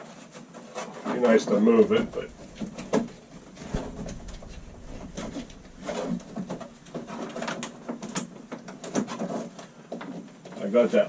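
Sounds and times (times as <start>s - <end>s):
scraping and rubbing in wall: 0.4s - 10.6s.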